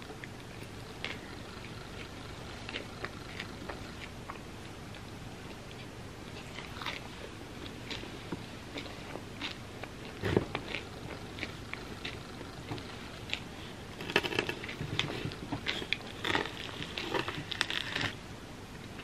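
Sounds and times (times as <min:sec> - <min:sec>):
chocolate crackling and crunching: 0:00.0 - 0:18.3.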